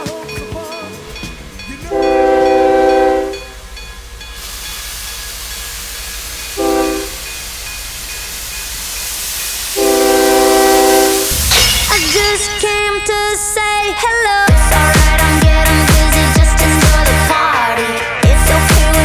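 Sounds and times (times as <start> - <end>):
steam hissing: 0.9 - 17.4
steam locomotive whistle blasts: 1.0 - 17.3.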